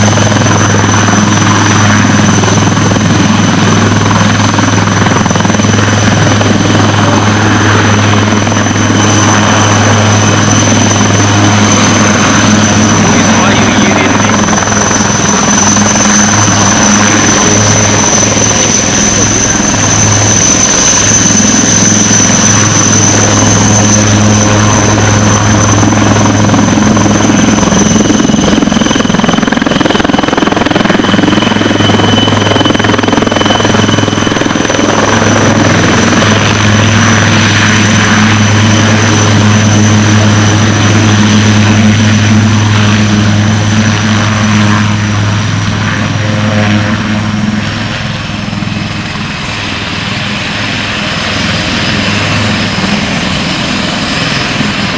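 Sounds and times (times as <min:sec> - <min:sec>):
helicopter rotor drone: 0:00.0 - 0:54.9
turbine whine: 0:00.0 - 0:54.9.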